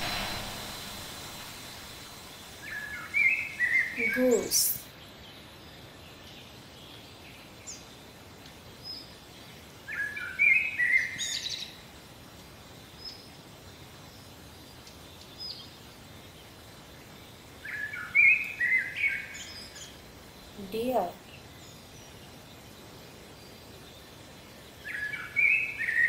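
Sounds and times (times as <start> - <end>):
small birds chirping: 0.0 - 12.0, 12.7 - 26.0
outdoor background hiss: 0.0 - 26.0.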